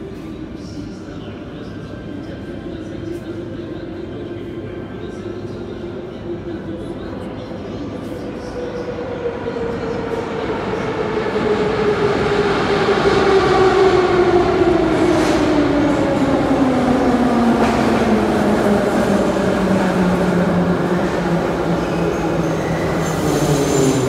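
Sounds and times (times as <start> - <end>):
metro train rumble: 0.0 - 24.0.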